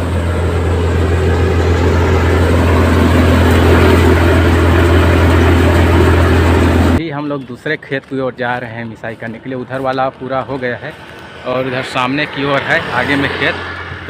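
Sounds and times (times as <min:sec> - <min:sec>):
tractor diesel engine humming: 0:00.0 - 0:14.0.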